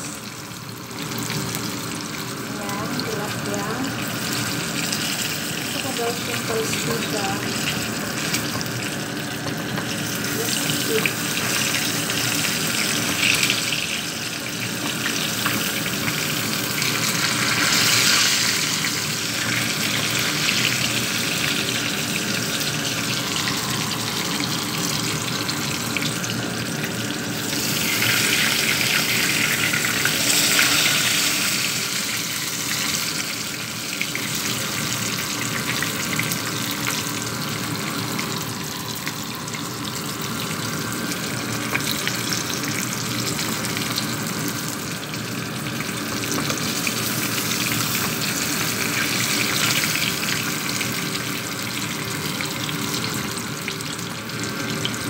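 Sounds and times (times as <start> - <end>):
fish frying in hot oil: 0.0 - 55.0.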